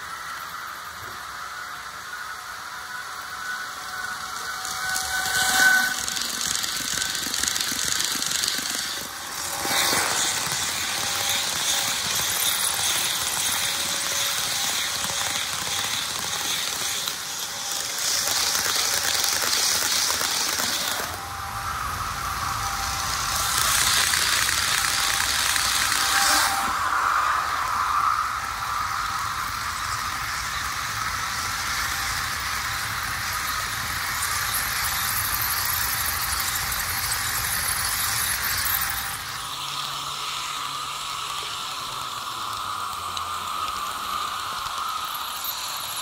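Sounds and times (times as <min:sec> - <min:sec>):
faint motor whine: 0:00.0 - 0:46.0
model train wheels rolling on rails: 0:00.0 - 0:46.0.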